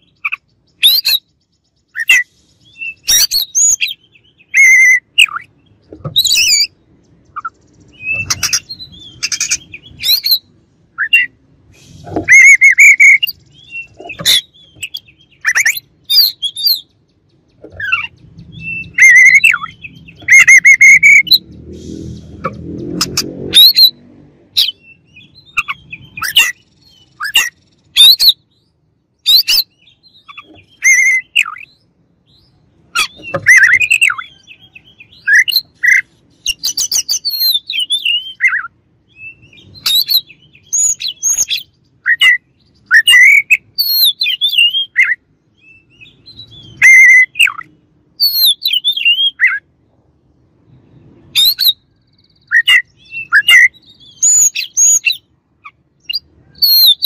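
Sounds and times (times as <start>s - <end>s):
bird singing whistles and chirps: 0.0s - 17.0s, 17.8s - 24.0s, 24.6s - 49.6s, 51.3s - 55.3s, 56.0s - 57.0s.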